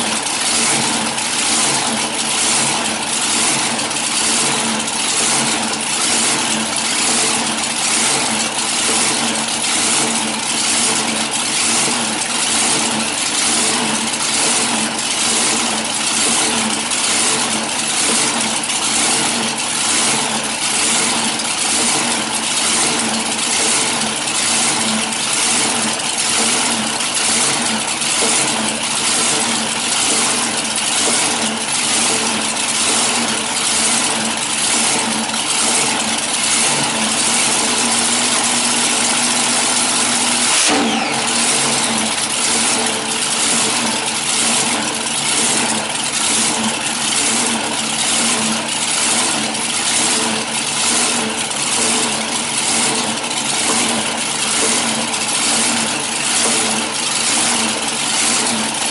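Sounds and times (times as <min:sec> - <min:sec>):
dragster engine idling: 0:00.0 - 0:58.9.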